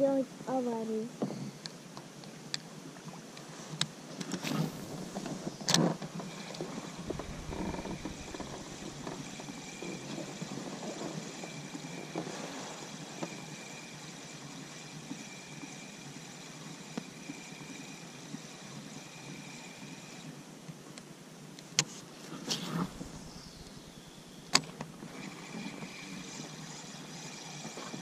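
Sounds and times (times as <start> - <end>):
faint steady hiss: 0.0 - 15.5, 18.7 - 26.8.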